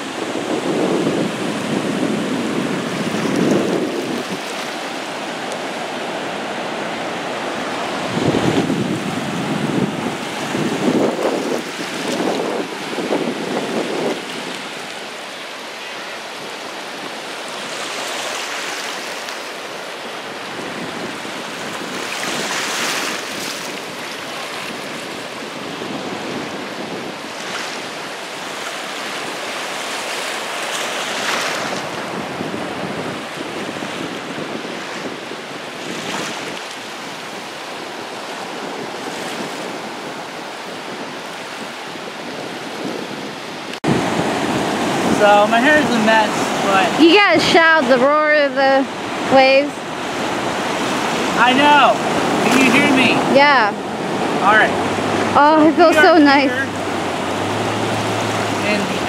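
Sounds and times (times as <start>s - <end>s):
ocean surf breaking on sand: 0.0s - 59.0s
wind buffeting microphone: 0.0s - 59.0s.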